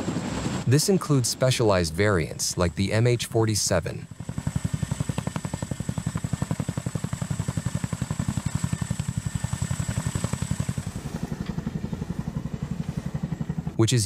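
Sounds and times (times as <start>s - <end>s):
helicopter rotor blades beating: 0.0s - 14.0s.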